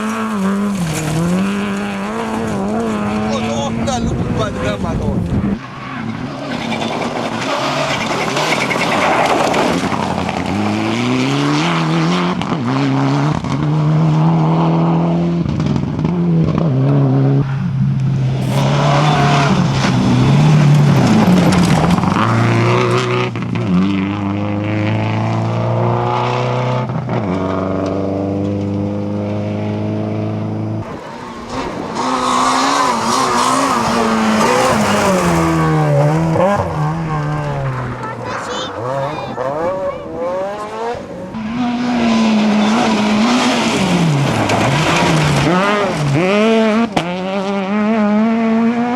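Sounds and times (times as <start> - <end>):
tyres skidding: 0.0 - 12.7, 15.3 - 24.2, 26.4 - 48.0
rally car engines revving: 0.0 - 48.9.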